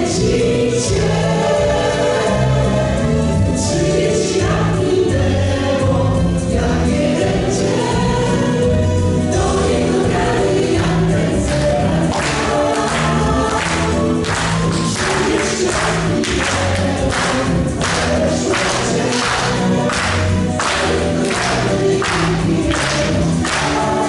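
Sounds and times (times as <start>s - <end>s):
instrumental backing with beat: 0.0s - 24.0s
voices singing in chorus: 0.0s - 24.0s.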